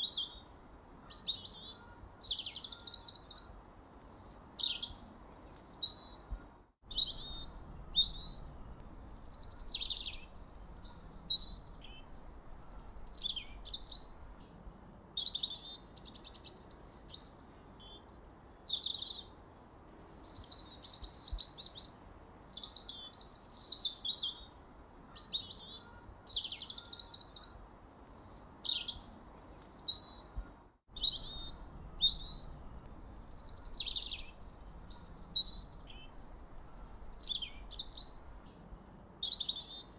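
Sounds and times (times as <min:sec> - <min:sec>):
faint low hiss: 0:00.0 - 0:39.9
songbirds singing: 0:00.0 - 0:39.9.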